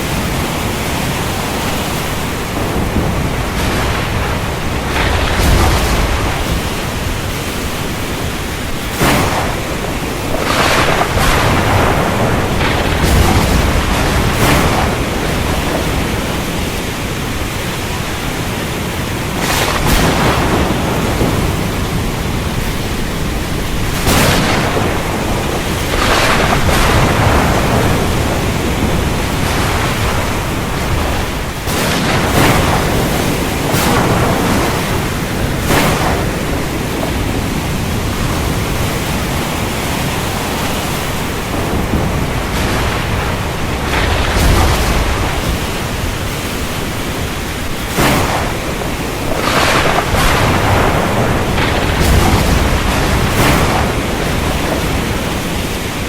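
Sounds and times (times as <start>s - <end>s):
heavy rain: 0.0s - 56.0s
sharp thunder cracks: 0.0s - 56.0s.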